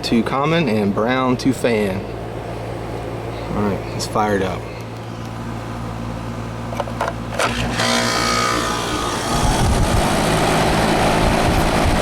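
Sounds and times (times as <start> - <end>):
condenser compressor hum: 0.0 - 12.0
condenser fan rushing air: 0.0 - 12.0.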